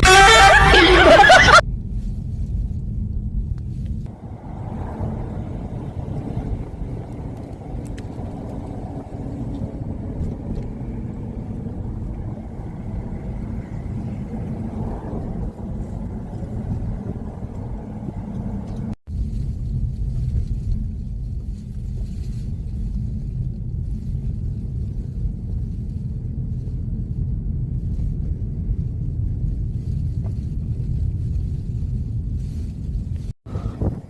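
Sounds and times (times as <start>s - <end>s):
car driving through snow: 0.0s - 34.0s.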